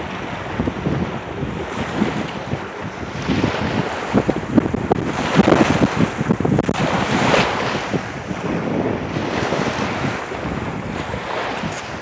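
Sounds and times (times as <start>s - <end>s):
waves splashing on shore: 0.0s - 12.0s
wind buffeting microphone: 0.0s - 12.0s.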